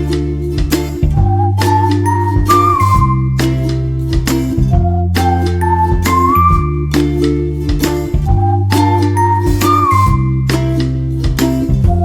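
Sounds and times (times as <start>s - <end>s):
bell-like melody: 0.0s - 12.0s
music with steady beat: 0.0s - 12.0s
sustained bass notes: 0.0s - 12.0s.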